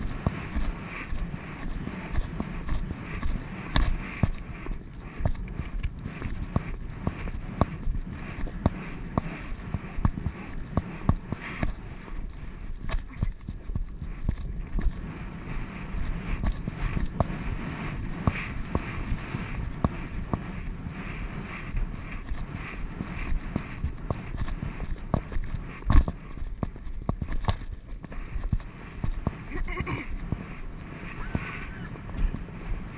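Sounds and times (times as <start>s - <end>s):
horse hoofbeats on soft ground: 0.0s - 32.9s
wind on microphone: 0.0s - 32.9s.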